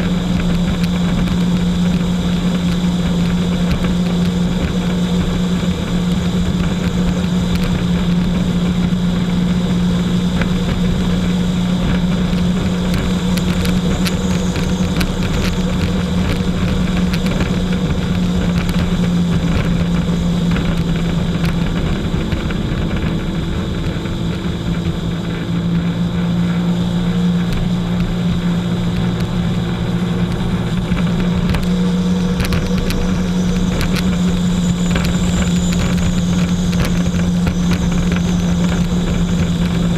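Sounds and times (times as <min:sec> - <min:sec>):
jet ski engine droning: 0:00.0 - 0:39.9.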